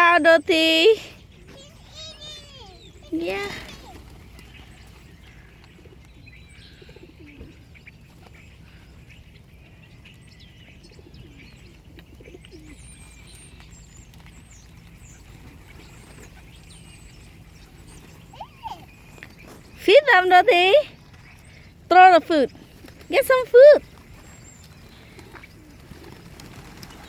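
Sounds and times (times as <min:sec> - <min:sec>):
birds chirping: 0:00.0 - 0:27.0
birds cooing: 0:01.0 - 0:27.0.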